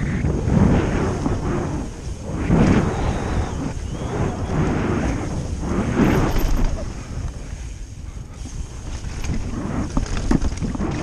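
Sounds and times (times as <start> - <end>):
bike rattling: 0.0 - 11.0
wind on microphone: 0.0 - 11.0
tyres rolling on dirt: 0.6 - 7.7, 8.4 - 11.0.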